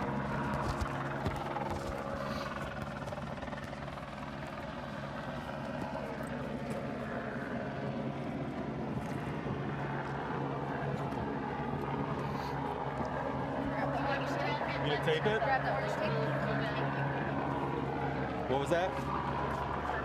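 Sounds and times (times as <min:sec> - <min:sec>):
helicopter engine and rotor: 0:00.0 - 0:20.0.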